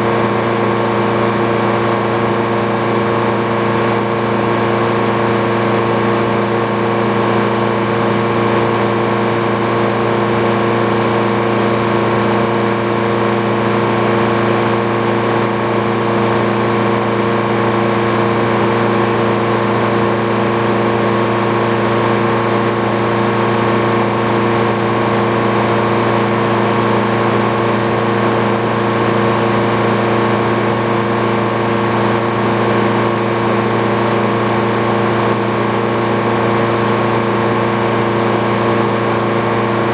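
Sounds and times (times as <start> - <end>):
sawmill machine drone: 0.0 - 39.9.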